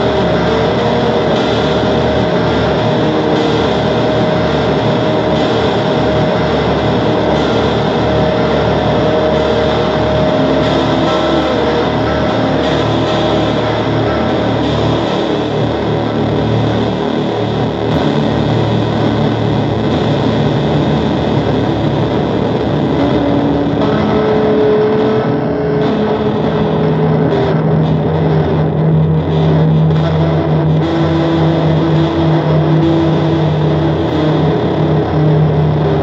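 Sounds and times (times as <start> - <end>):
distorted noise music: 0.0 - 36.0
held low tones: 0.0 - 36.0.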